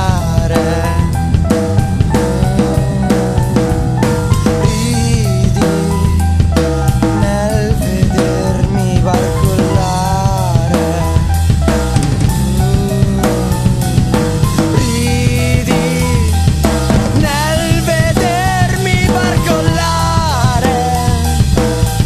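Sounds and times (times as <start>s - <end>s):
bass line: 0.0s - 22.0s
bending melodic line: 0.0s - 22.0s
drum kit beat: 0.0s - 22.0s.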